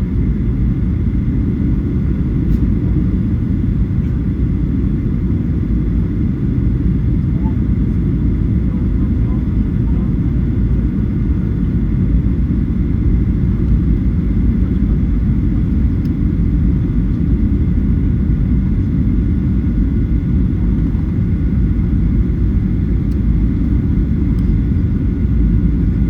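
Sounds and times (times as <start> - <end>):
jet engine rumble in cabin: 0.0 - 26.0.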